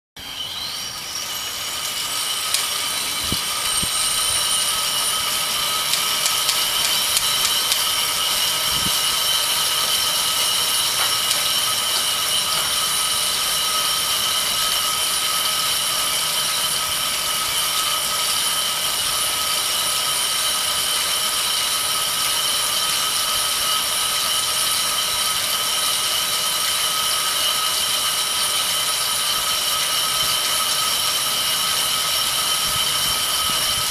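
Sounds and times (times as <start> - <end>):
bicycle trainer roller whine: 0.2 - 33.9.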